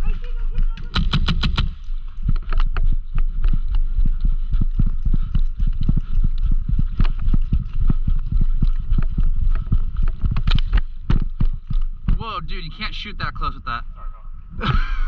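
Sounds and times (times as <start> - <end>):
gear jostling: 0.0 - 12.2
wind rumbling on microphone: 0.0 - 12.2
running footsteps: 0.0 - 13.1.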